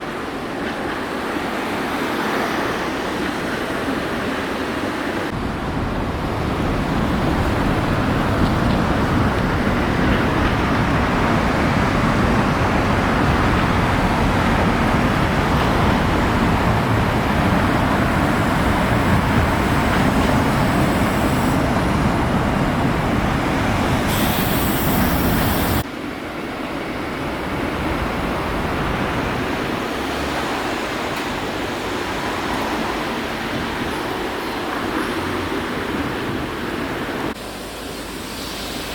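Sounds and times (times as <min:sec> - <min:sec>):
road traffic: 0:00.0 - 0:38.9.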